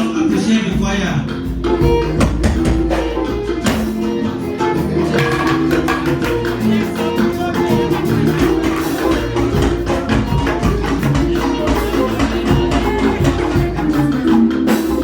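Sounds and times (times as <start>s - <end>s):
sustained instrumental chords: 0.0s - 15.0s.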